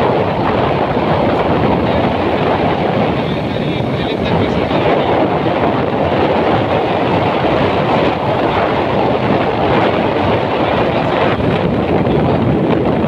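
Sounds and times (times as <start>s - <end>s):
motorcycle engine and tyre noise: 0.0s - 13.0s
wind buffeting microphone: 0.0s - 13.0s.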